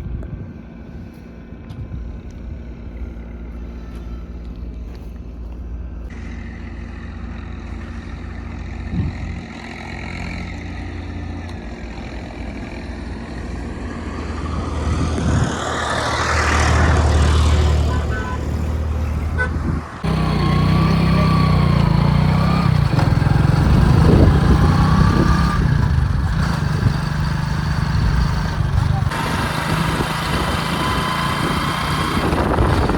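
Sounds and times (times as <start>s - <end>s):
heavy diesel engines running: 0.6s - 32.9s.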